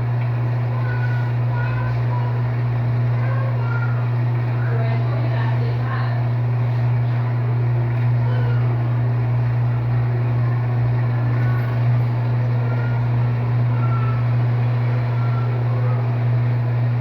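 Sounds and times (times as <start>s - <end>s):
drum whirring: 0.0s - 17.0s
washing machine motor hum: 0.0s - 17.0s.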